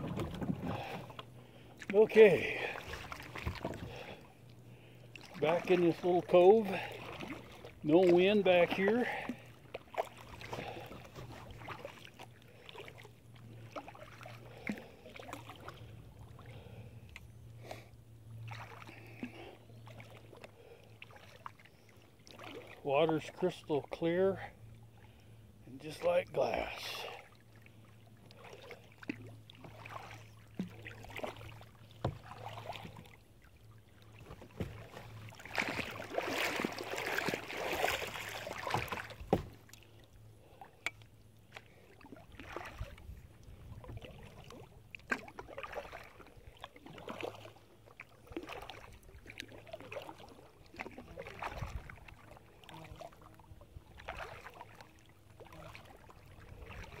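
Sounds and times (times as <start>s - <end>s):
kayak paddle splashing: 0.0s - 57.0s.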